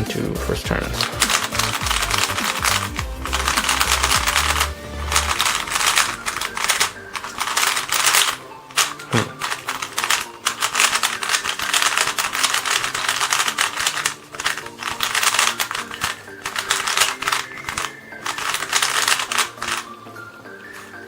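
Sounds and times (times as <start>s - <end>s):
background music: 0.0s - 21.0s
plastic puzzle cube clicking: 0.9s - 20.0s.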